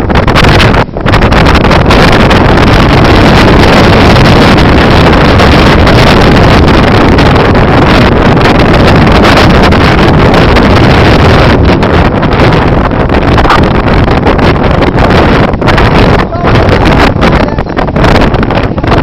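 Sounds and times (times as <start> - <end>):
flood torrent rushing: 0.0 - 19.0.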